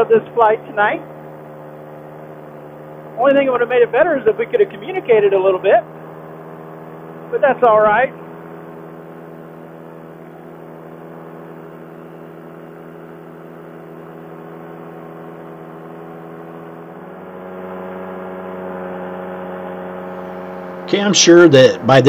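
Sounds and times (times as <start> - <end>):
paramotor engine droning: 0.0 - 22.0.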